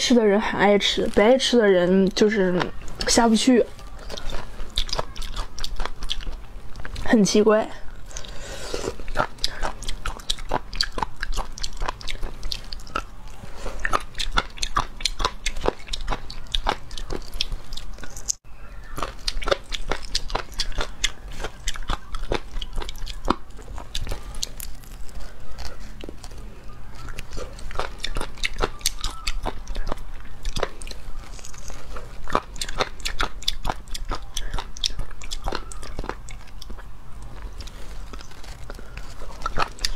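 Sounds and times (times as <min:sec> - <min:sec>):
chewing: 0:00.7 - 0:07.2, 0:07.8 - 0:39.9.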